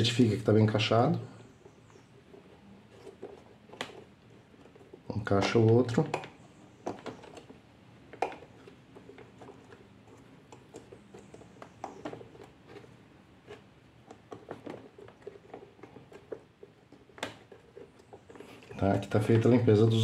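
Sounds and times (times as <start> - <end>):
plastic and metal clicks and scrapes: 2.3 - 19.5.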